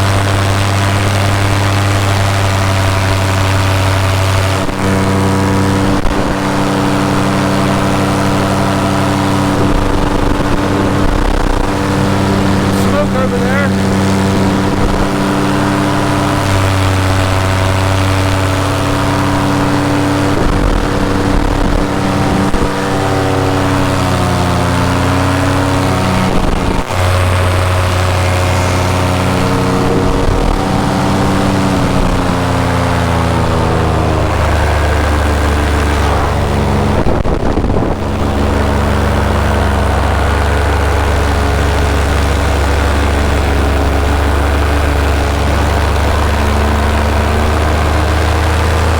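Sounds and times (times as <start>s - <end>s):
paramotor engine and propeller: 0.0s - 48.9s.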